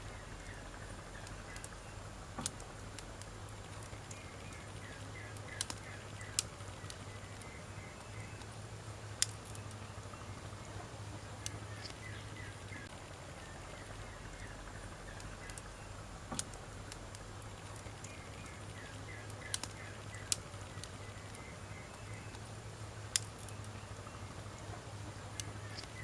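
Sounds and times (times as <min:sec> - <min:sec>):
steady low hum: 0:00.0 - 0:26.0
wood fire crackling: 0:00.0 - 0:26.0.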